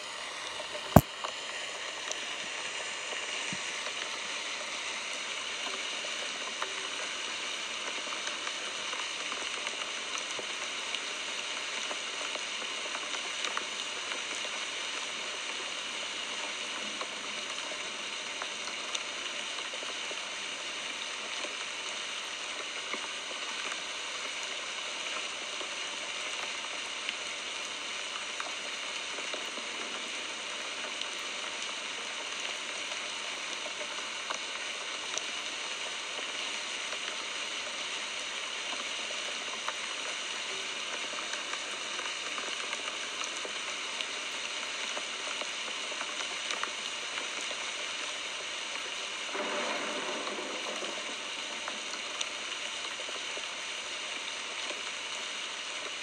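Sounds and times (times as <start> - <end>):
faint raindrop ticks: 0.0 - 56.0
steady rain hissing: 0.0 - 56.0.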